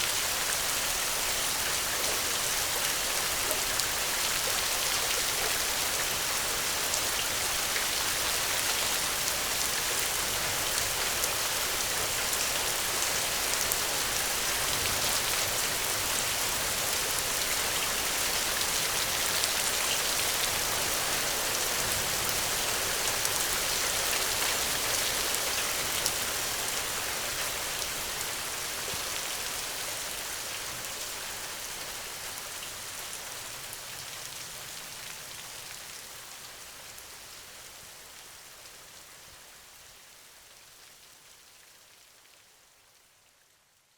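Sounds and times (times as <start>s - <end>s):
steady rainfall: 0.0s - 43.6s.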